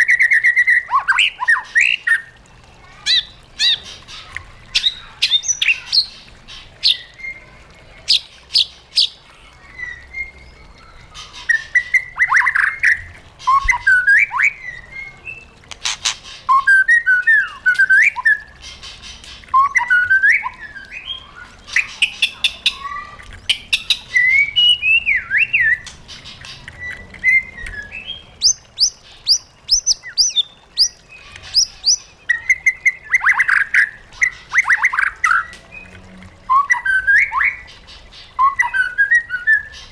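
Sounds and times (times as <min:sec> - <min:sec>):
bird singing varied song: 0:03.0 - 0:39.9.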